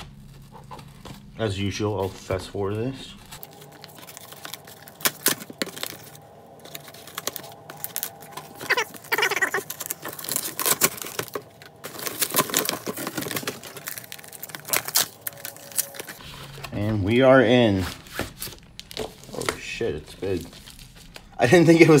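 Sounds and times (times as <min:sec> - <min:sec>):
cardboard box being unpacked: 0:00.0 - 0:21.2.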